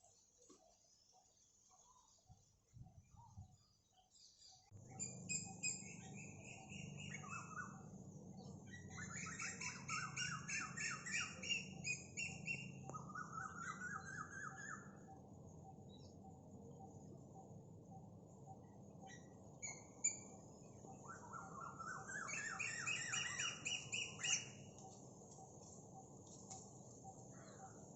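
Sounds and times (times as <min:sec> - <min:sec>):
low steady hum: 0:04.7 - 0:27.9.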